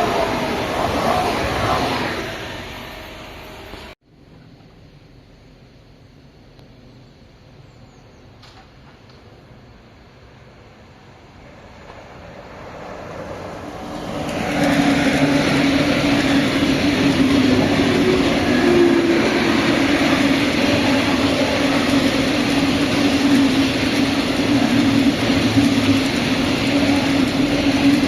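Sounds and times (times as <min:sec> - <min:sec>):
train rolling past: 0:00.0 - 0:04.0, 0:06.4 - 0:28.0.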